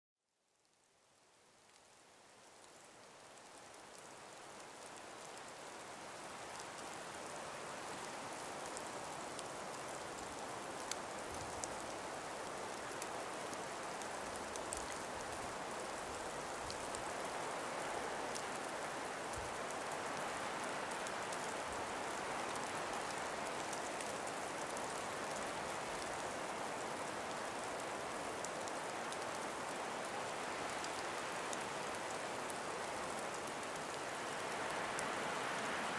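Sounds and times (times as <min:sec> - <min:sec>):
breeze through forest: 0:00.2 - 0:35.9.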